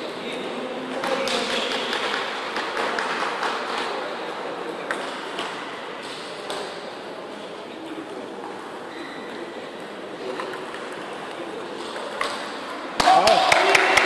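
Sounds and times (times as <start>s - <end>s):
sports hall background noise: 0.0s - 14.0s.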